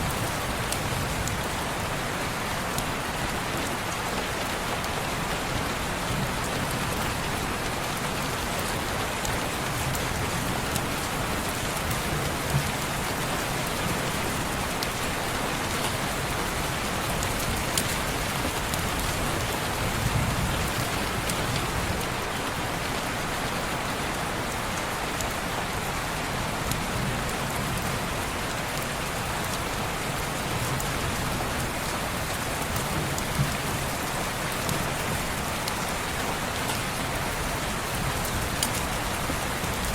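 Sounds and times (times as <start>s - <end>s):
rain on window glass: 2.6s - 22.2s, 26.6s - 39.9s.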